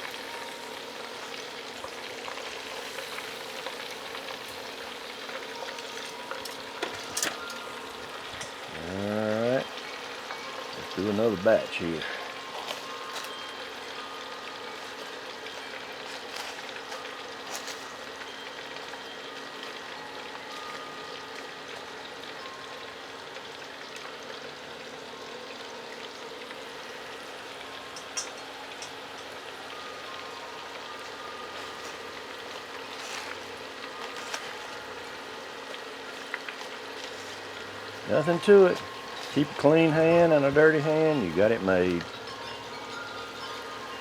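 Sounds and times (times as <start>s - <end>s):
chicken deep-frying in oil: 0.0s - 44.0s.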